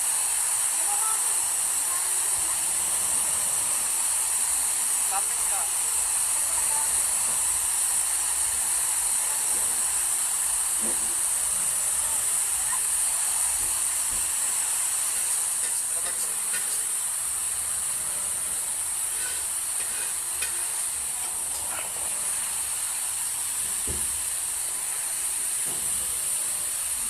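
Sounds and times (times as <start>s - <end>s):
waterfall rushing: 0.0s - 25.8s.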